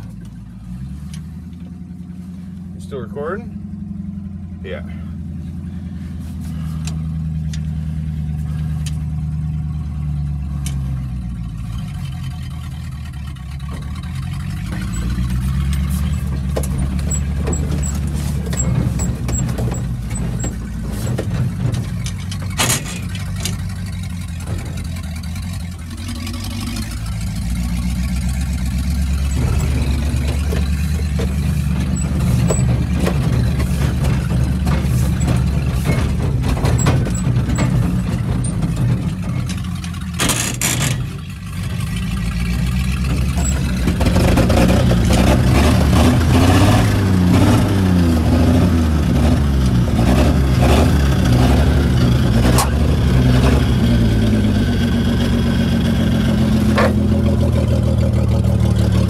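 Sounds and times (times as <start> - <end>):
cab rattling and clanking: 0.0 - 59.0
truck engine running: 0.0 - 59.0.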